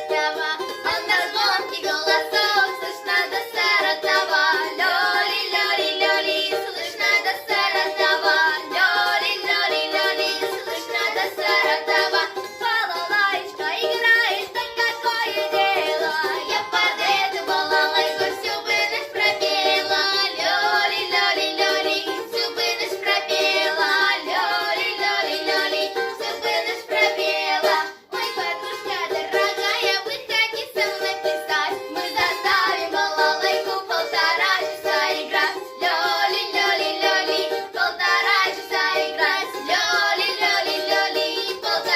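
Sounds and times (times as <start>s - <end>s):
girls singing a duet: 0.0s - 41.9s
musical accompaniment: 0.0s - 41.9s.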